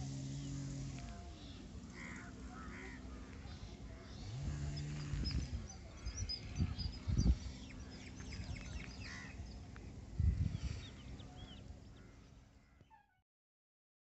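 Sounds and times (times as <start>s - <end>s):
birds chirping and calling: 0.3s - 13.0s.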